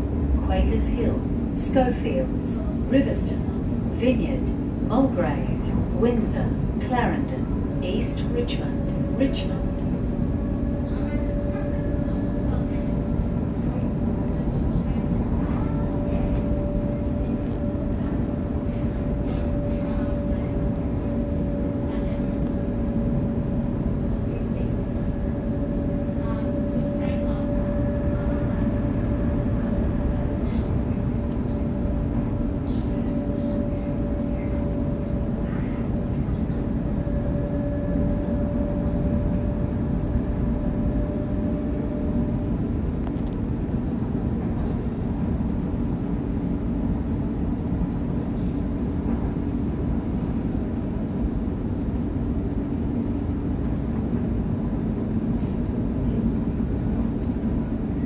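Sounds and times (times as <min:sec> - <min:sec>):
constant hum: 0:00.0 - 0:58.0.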